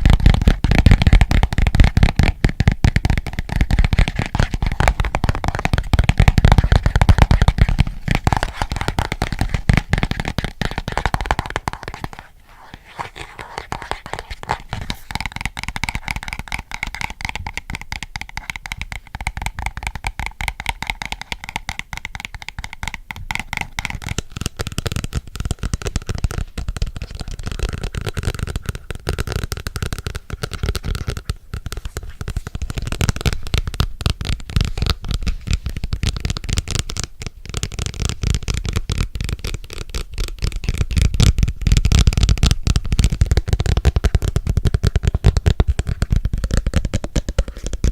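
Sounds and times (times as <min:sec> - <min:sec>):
fingernail tapping on hard object: 0:00.0 - 0:12.3, 0:12.9 - 0:47.9.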